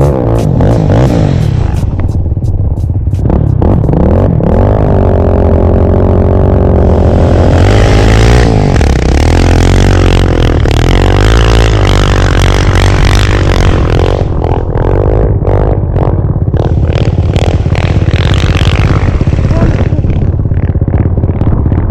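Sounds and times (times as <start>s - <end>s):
engine revving: 0.0s - 21.9s.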